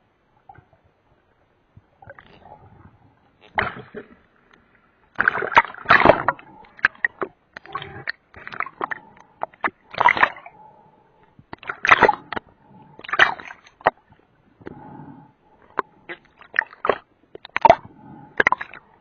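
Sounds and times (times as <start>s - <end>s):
water splashing and sloshing: 0.4s - 19.0s.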